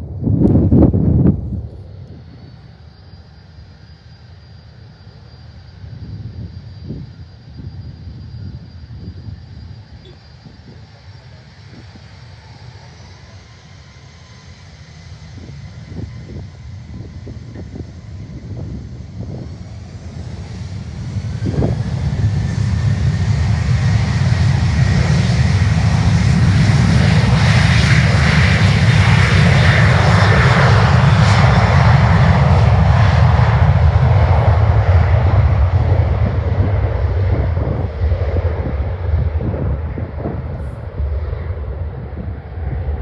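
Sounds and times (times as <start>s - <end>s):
faint whine: 0.0s - 42.9s
jet engines passing by: 0.0s - 43.0s.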